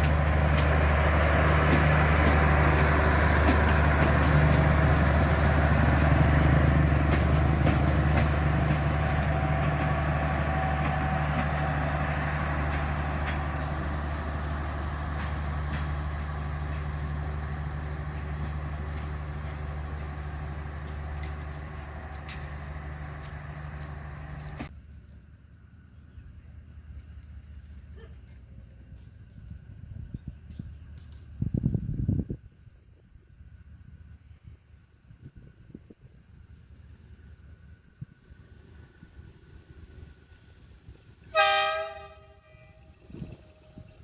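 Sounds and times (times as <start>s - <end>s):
locomotive engine droning: 0.0s - 44.0s.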